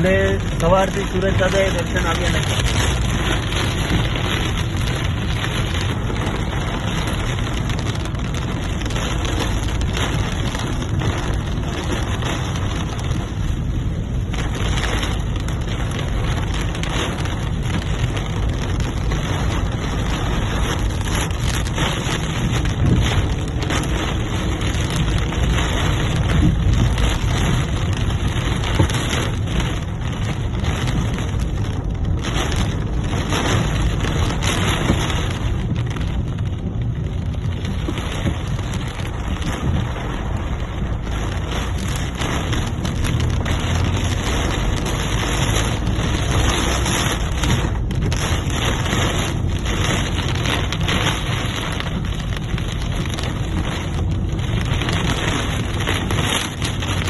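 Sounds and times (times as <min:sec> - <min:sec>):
heavy rain falling: 0:00.0 - 0:57.0
wind rumbling on microphone: 0:00.0 - 0:57.0.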